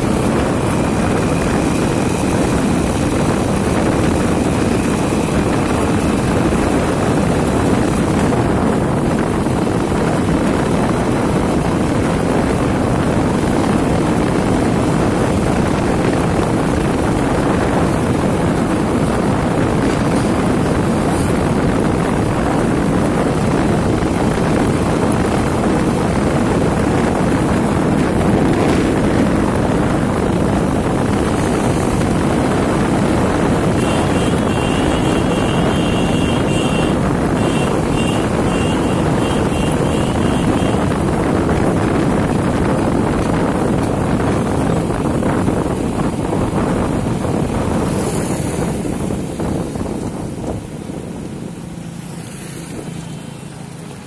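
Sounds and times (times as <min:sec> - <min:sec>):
motorbike riding on paved road: 0:00.0 - 0:54.0
wind rumble on microphone: 0:00.0 - 0:54.0.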